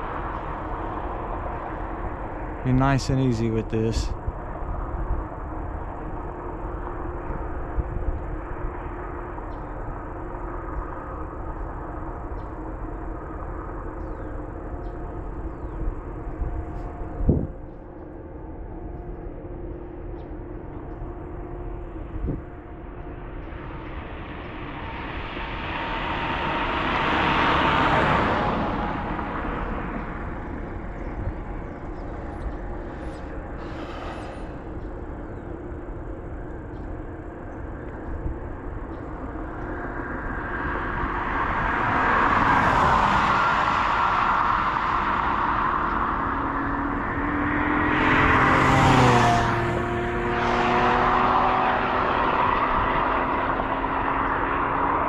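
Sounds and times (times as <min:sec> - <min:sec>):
road vehicles passing: 0:00.0 - 0:55.0.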